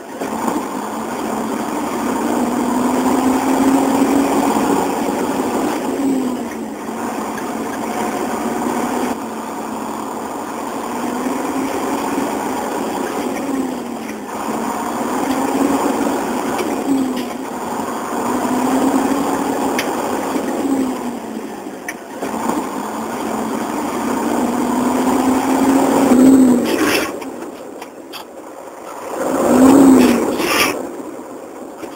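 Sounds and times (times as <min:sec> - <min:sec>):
truck engine accelerating: 0:00.0 - 0:31.9.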